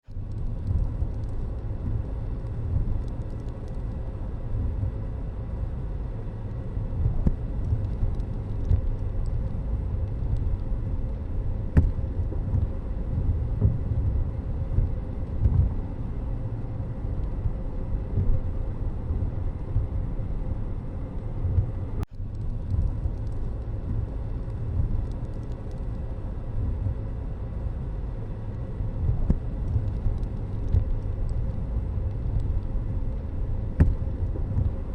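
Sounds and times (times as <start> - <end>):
low rumble of road vehicles: 0.0 - 34.9.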